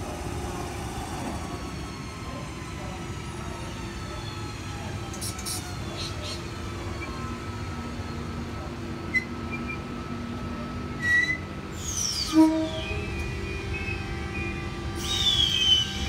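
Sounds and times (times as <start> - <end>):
train equipment humming: 0.0 - 16.0.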